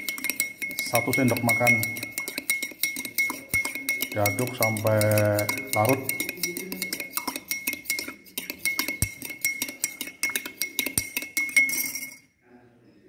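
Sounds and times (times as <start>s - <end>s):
glass ringing: 0.0s - 12.4s
spoon clinking against glass: 0.0s - 12.4s.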